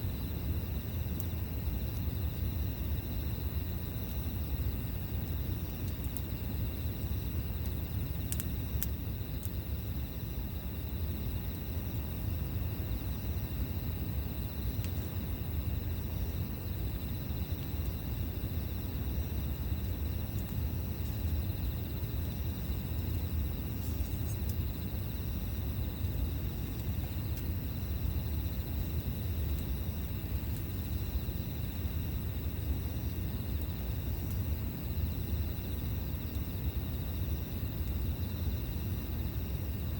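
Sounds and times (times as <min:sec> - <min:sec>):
insects chirring: 0:00.0 - 0:39.9
campfire crackling: 0:00.2 - 0:38.2.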